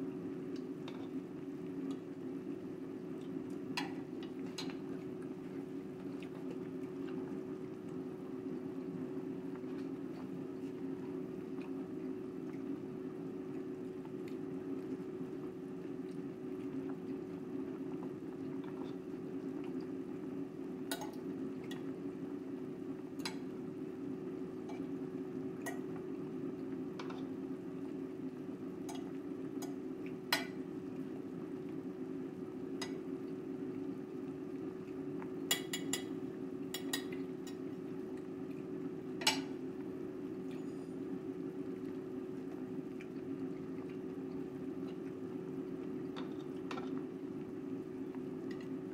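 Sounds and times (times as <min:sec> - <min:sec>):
soup simmering in pot: 0:00.0 - 0:48.9
steady low hum: 0:00.0 - 0:48.9.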